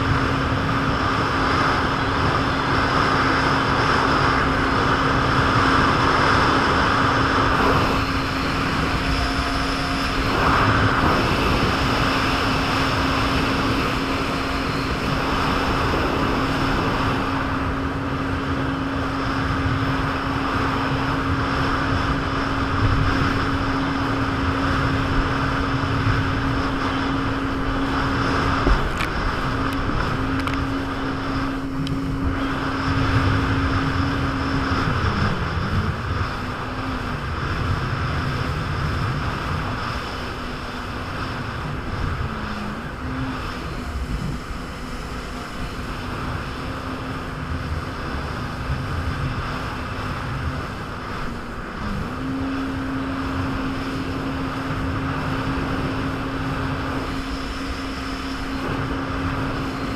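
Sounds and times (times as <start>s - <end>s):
jet ski engine: 0.0s - 59.9s
wind noise: 0.0s - 59.9s.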